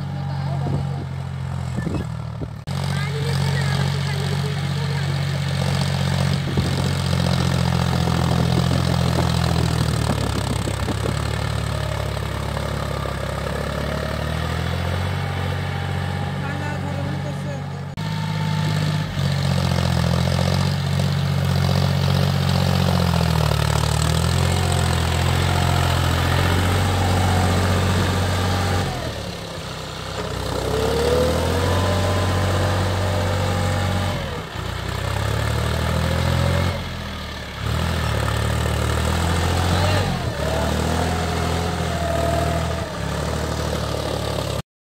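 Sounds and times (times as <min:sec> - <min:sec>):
tractor diesel engine under load: 0:00.0 - 0:44.6.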